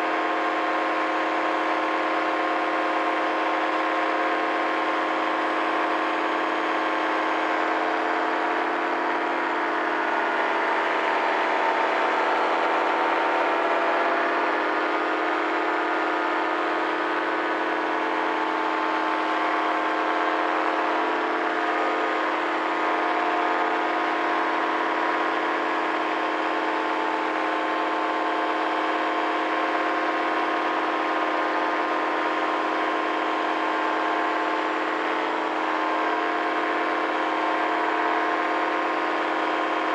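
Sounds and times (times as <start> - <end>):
paramotor engine drone: 0.0 - 39.9.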